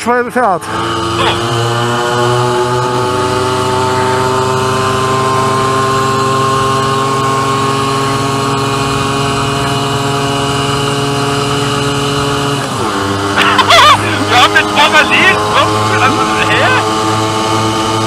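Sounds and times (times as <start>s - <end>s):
moped engine at high revs: 0.0s - 18.0s.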